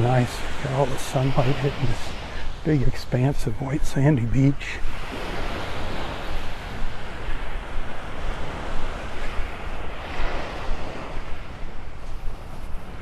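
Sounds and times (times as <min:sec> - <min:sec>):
surf washing on beach: 0:00.0 - 0:13.0
wind on microphone: 0:00.0 - 0:13.0.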